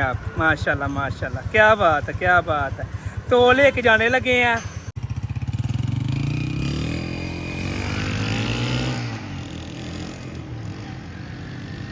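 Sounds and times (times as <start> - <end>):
motorcycle engine pulling away: 0.0 - 11.9.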